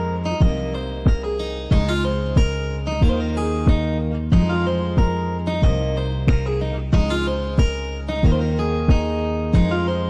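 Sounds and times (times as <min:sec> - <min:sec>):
acoustic guitar over a beat: 0:00.0 - 0:10.0.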